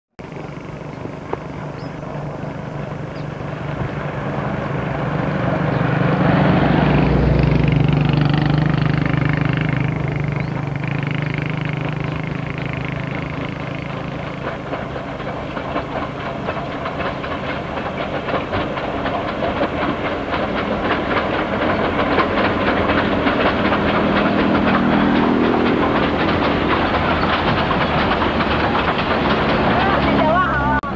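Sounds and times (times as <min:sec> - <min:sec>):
steam locomotive running: 0:00.2 - 0:30.9.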